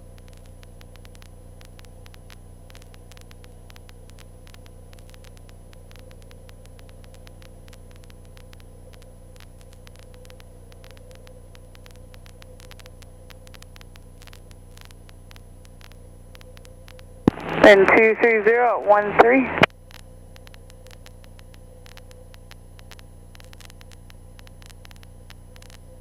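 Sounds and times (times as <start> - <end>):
faint engine drone: 0.0 - 26.0
low hum with static crackles: 0.0 - 26.0.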